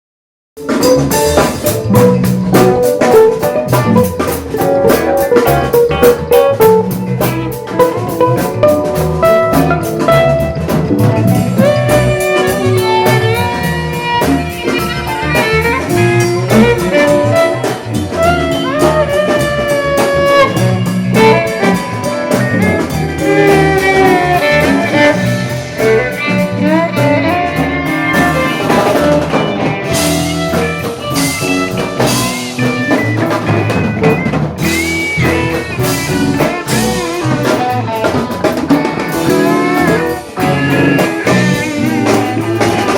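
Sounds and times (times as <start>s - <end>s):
cymbals: 0.6s - 42.9s
drum kit steady beat: 0.6s - 42.9s
jazz blues band playing: 0.6s - 42.9s
sliding lead melody: 0.6s - 42.9s.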